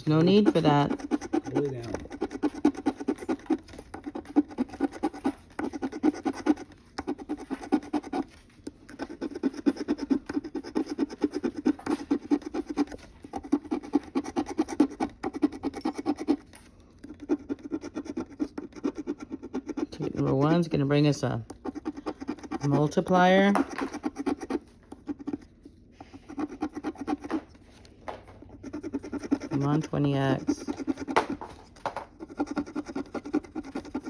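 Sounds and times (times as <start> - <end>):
scratch-off ticket being scratched: 0.0 - 27.6, 28.3 - 34.0.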